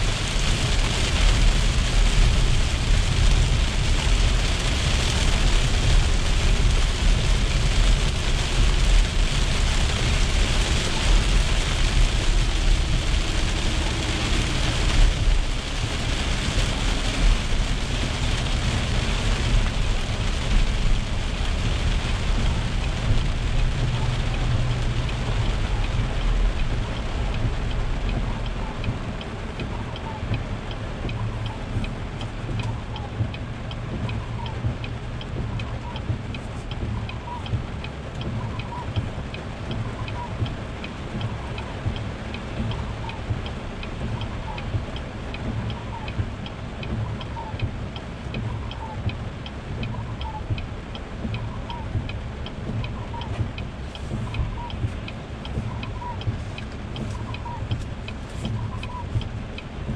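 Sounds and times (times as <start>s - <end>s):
heavy rain on car windshield: 0.0s - 59.9s
tyres rumbling on wet road: 0.0s - 59.9s.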